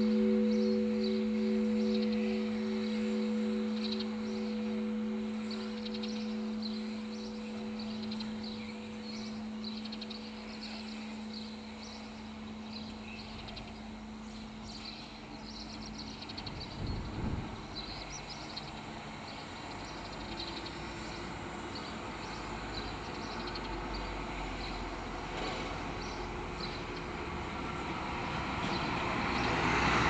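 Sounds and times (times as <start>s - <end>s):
birds chirping: 0.0s - 27.2s
steady low hum: 0.0s - 28.4s.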